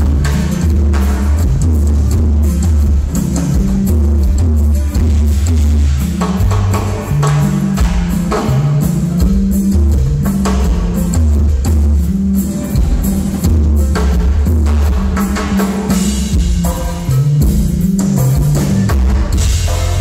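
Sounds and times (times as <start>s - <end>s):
bass line: 0.0s - 20.0s
live band playing: 0.0s - 20.0s.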